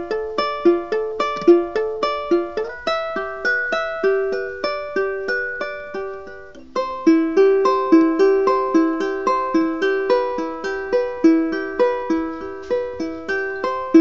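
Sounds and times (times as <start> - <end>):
ukulele plucked melody: 0.0 - 14.0.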